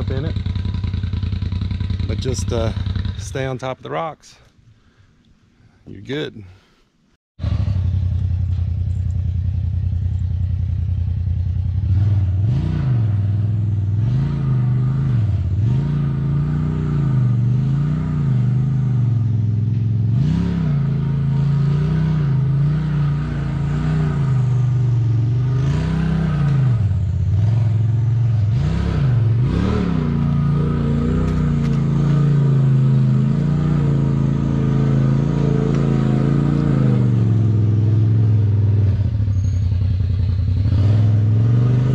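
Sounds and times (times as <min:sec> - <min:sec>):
off-road vehicle engine revving: 0:00.0 - 0:03.6, 0:11.5 - 0:41.9.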